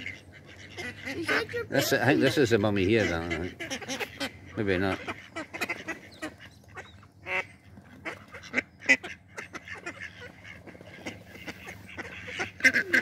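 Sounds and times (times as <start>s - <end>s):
ducks calling: 0.0s - 13.0s.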